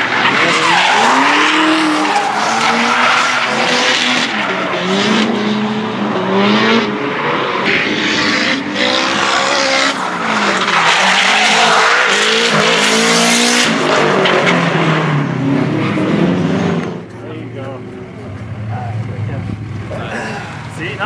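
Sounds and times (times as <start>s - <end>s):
car engines revving hard: 0.0s - 21.0s
tyres skidding and squealing: 0.0s - 21.0s.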